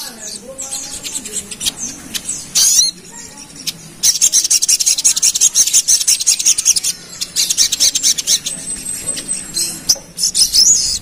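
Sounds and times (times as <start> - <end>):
high-pitched bird chattering: 0.0 - 11.0
sunbird singing: 0.0 - 11.0.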